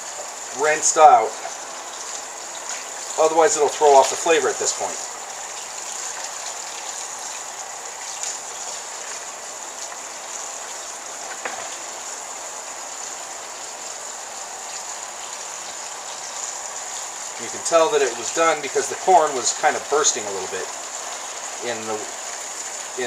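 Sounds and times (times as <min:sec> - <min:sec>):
tap water running: 0:00.0 - 0:23.0.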